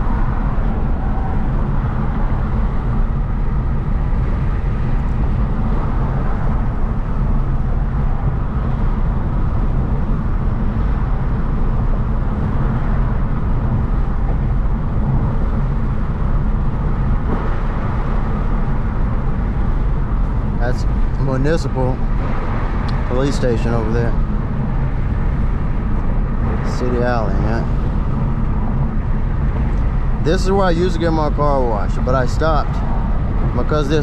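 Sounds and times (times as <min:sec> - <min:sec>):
car engine rumble inside cabin: 0:00.0 - 0:34.0.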